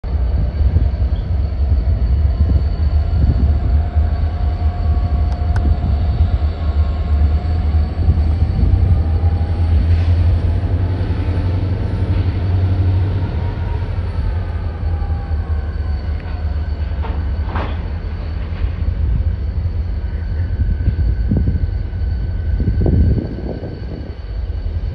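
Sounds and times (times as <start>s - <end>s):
locomotive engine rumble: 0.0s - 24.9s.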